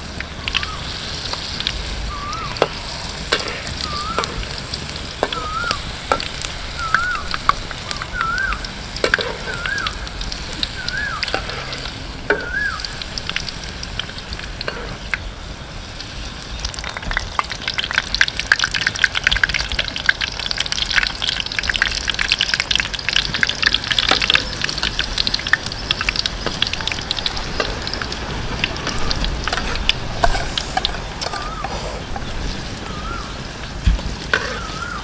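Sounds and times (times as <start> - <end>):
food deep-frying in hot oil: 0.0 - 35.0.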